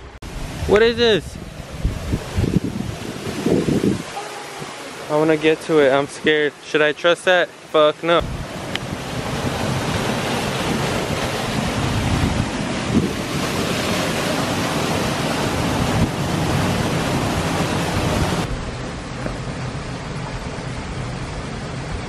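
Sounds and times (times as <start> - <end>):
water rushing down small waterfall: 0.4 - 22.0.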